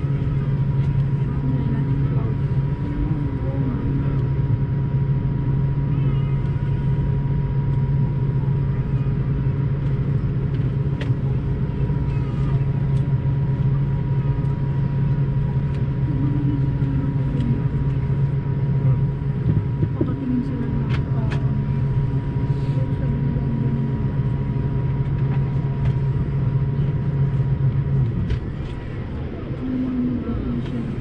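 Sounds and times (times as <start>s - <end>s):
aircraft cabin hum: 0.0s - 31.0s.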